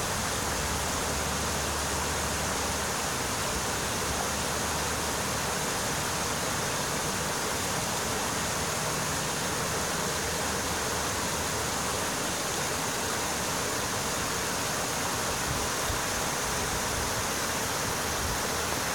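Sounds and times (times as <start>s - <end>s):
creek running over rocks: 0.0s - 18.9s.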